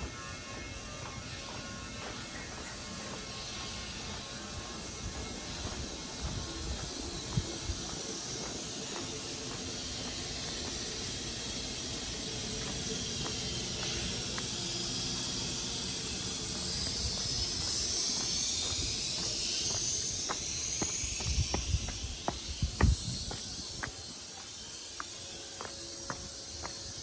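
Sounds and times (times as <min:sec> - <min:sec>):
high hiss: 0:00.0 - 0:27.0
train running rumble: 0:00.0 - 0:27.0.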